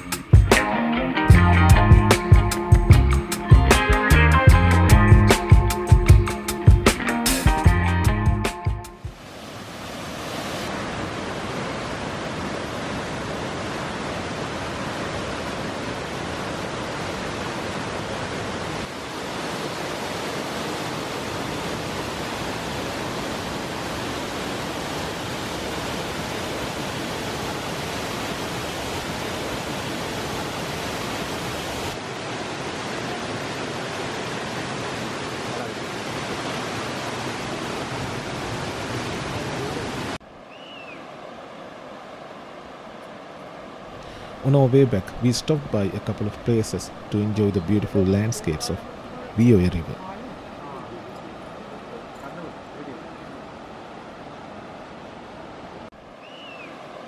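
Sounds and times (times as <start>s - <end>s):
waterfall rushing: 9.0s - 57.0s.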